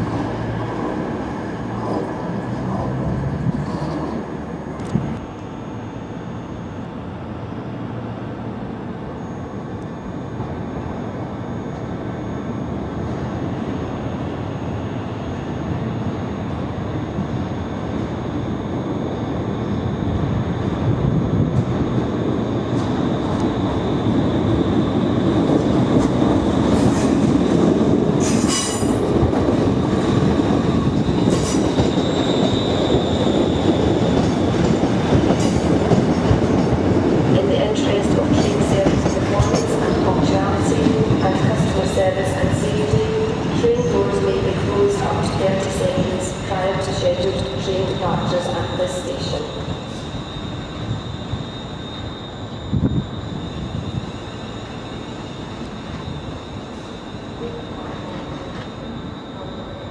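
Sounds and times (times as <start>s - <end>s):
train running noise: 0.0s - 59.9s.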